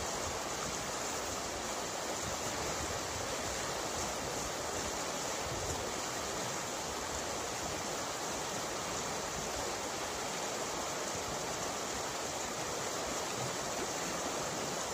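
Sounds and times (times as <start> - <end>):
river rushing over rocks: 0.0 - 14.9.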